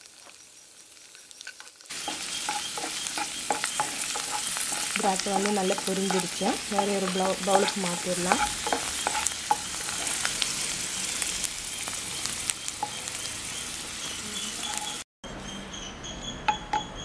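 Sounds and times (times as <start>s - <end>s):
raisins sizzling in hot fat: 0.0s - 15.0s.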